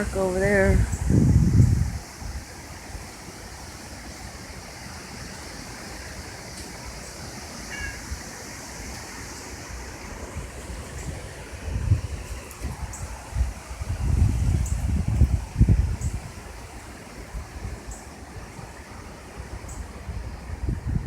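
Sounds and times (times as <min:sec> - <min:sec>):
steady wind: 0:00.0 - 0:21.0
wind gusts buffeting microphone: 0:00.0 - 0:21.0.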